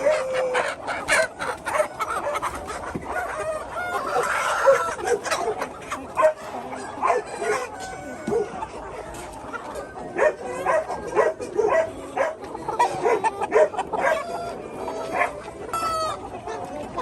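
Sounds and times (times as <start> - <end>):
chickens clucking and squawking: 0.0 - 17.0.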